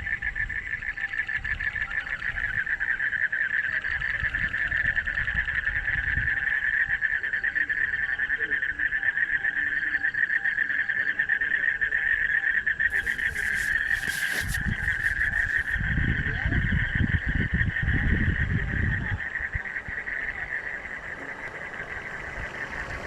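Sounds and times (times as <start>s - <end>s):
chorus of frogs trilling: 0.0s - 23.0s.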